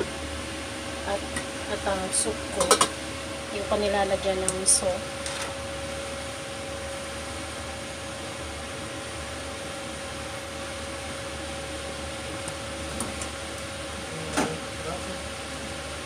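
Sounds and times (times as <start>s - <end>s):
fan motor whirring: 0.0s - 16.0s.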